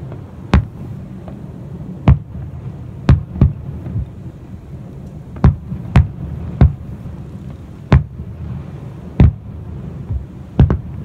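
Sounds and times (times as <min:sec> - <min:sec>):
firework booms: 0:00.0 - 0:11.0
low rumble: 0:00.0 - 0:11.0.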